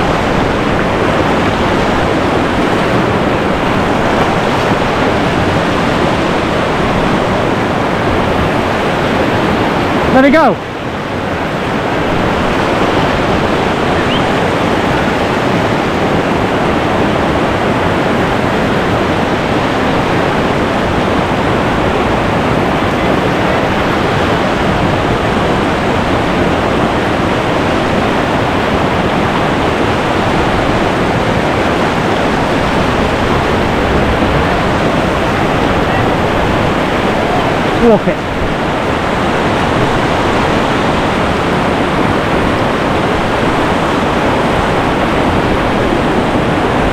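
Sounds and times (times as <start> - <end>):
whitewater rapid rushing: 0.0 - 46.9.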